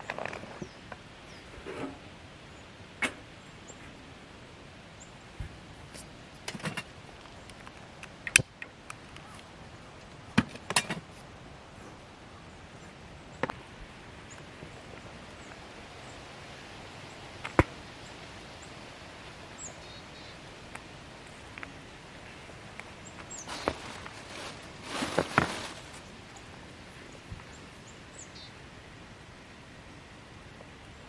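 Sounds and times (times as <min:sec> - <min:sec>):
faint outdoor background: 0:00.0 - 0:31.0.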